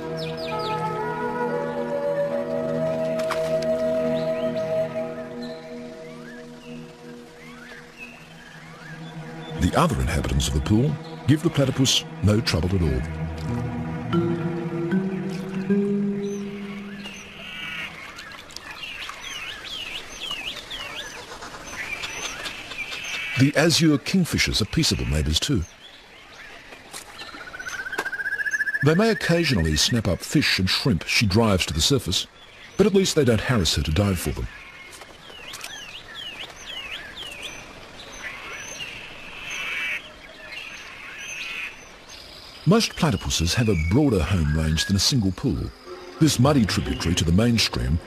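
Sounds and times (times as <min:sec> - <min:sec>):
outdoor background noise: 0:00.0 - 0:48.0
wild birds calling: 0:00.0 - 0:48.0.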